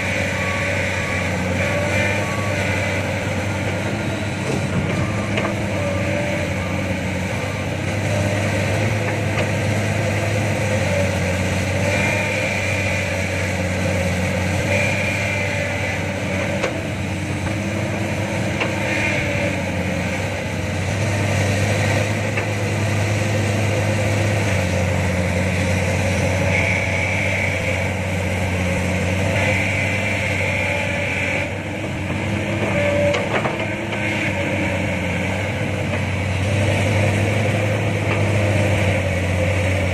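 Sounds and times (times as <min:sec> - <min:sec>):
diesel engines running: 0:00.0 - 0:39.9
excavator hydraulic whine: 0:00.0 - 0:39.9.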